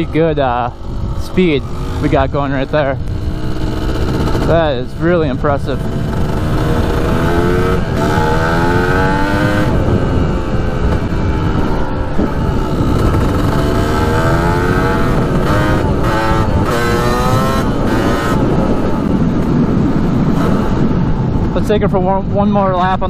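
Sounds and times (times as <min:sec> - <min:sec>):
motorcycle engine revving: 0:00.0 - 0:22.4
wind noise on microphone: 0:00.0 - 0:23.0.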